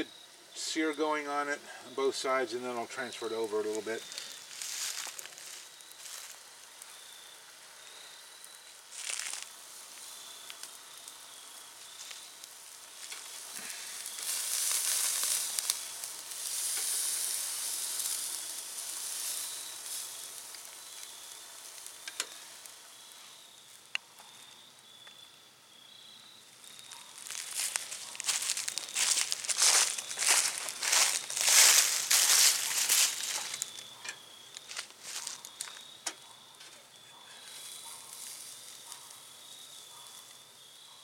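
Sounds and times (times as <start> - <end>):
steak sizzling on a grill: 0.0 - 41.0.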